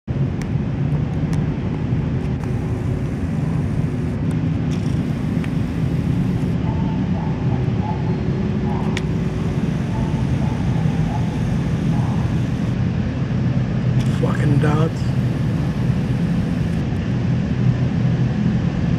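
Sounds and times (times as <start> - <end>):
jet engine idling: 0.2 - 18.9.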